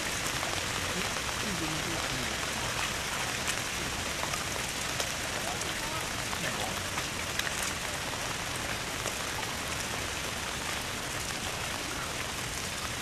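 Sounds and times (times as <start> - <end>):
falling water hiss and patter: 0.0 - 13.0.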